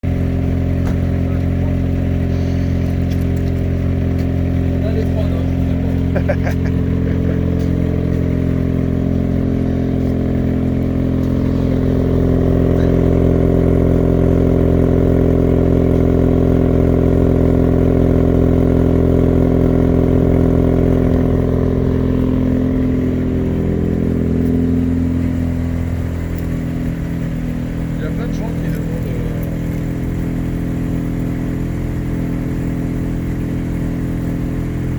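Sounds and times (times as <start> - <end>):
rotary engine idling: 0.0 - 34.9.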